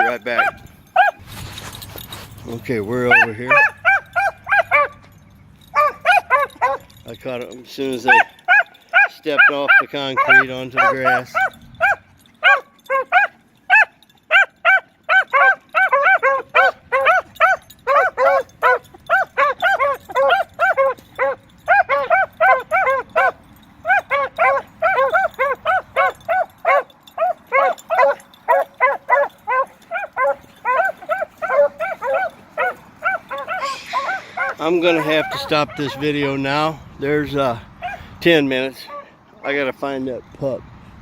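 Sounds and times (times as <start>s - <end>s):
dogs yelping: 0.0s - 36.8s, 37.4s - 38.2s.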